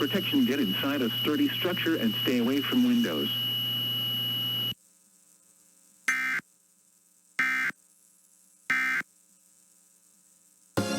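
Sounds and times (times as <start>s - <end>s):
faint hum: 0.0s - 10.9s.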